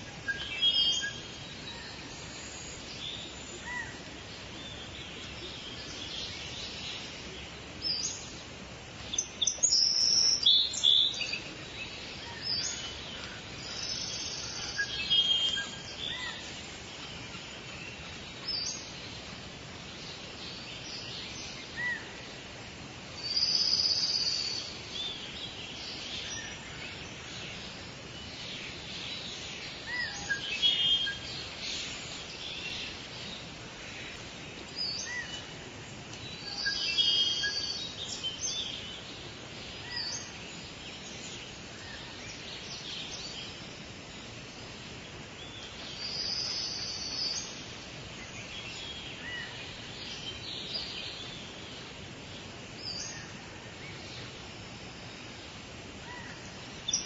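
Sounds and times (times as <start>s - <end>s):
forest birds chirping: 0.0s - 57.0s
steady background hiss: 0.0s - 57.0s.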